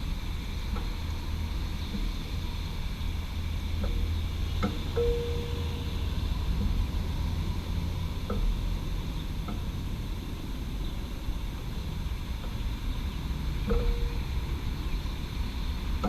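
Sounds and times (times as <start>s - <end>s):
urban traffic rumble: 0.0s - 16.0s.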